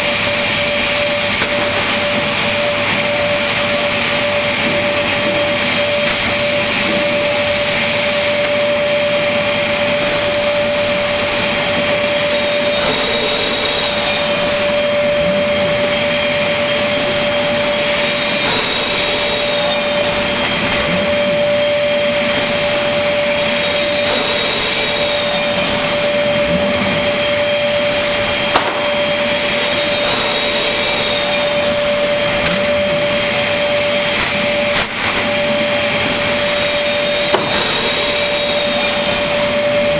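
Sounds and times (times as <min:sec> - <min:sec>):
motor whine: 0:00.0 - 0:39.9
panel-cutting machine running: 0:00.0 - 0:39.9.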